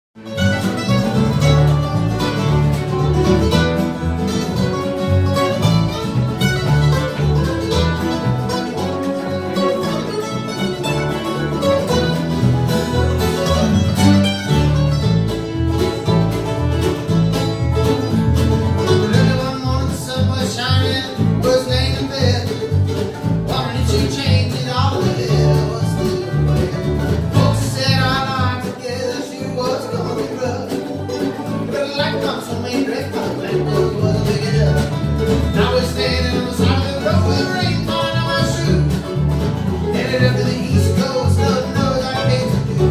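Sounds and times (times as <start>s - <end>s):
acoustic guitar: 0.2s - 42.9s
fiddle: 0.2s - 42.9s
mandolin: 0.2s - 42.9s
plucked upright bass: 0.2s - 42.9s
resonator guitar: 0.2s - 42.9s.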